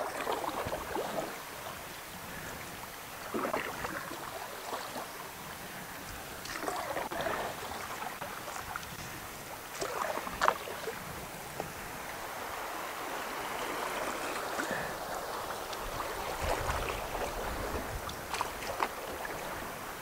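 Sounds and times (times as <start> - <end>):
moving water: 0.0 - 20.0
paddle splashing in water: 0.0 - 20.0.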